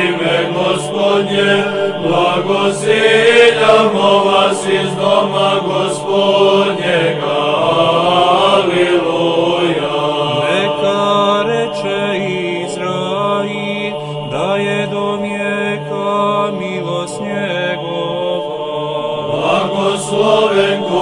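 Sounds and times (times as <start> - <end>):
voices chanting slow melody: 0.0 - 21.0.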